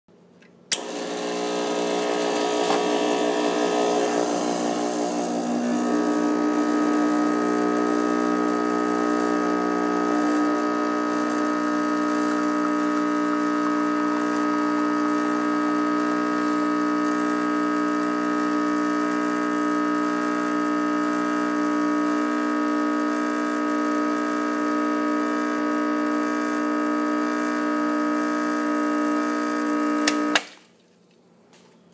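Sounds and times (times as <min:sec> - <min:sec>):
espresso machine pump humming: 0:00.7 - 0:30.4.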